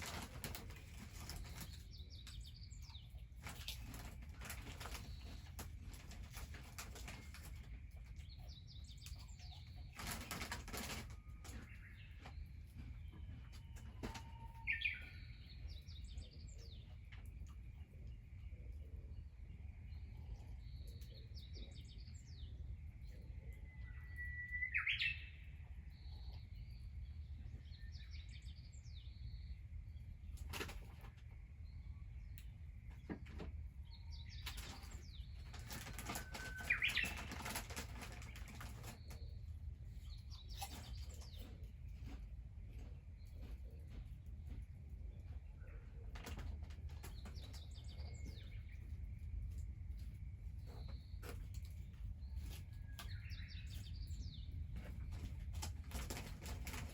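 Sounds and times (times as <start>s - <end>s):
bird chirps: 0.0s - 44.6s, 45.2s - 56.9s.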